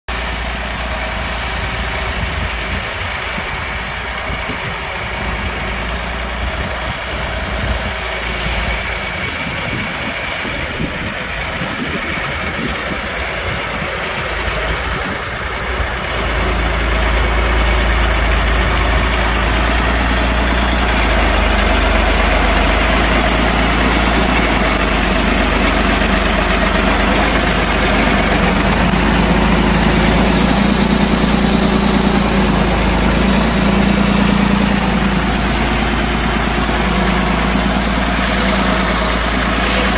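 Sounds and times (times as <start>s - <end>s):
skidder engine running: 0.0s - 39.9s.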